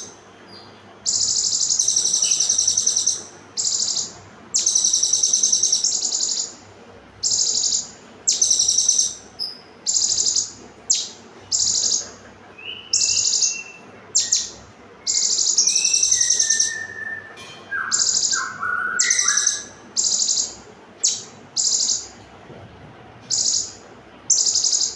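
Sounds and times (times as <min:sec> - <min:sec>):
lower whistled bird notes: 0:00.0 - 0:06.6, 0:07.2 - 0:22.1, 0:23.3 - 0:24.9
sunbird singing buzzy trills: 0:00.0 - 0:22.2, 0:23.2 - 0:24.9.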